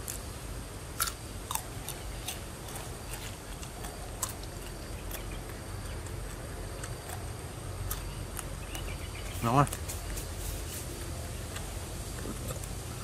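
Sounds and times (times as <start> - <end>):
person crunching and chewing: 0.9 - 13.0.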